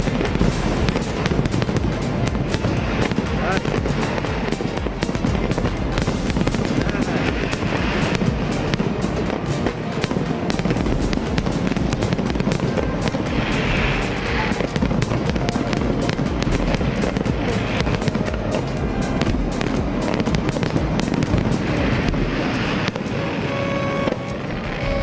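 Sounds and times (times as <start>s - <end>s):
fireworks bangs and crackling: 0.0s - 25.0s
music playing: 0.0s - 25.0s.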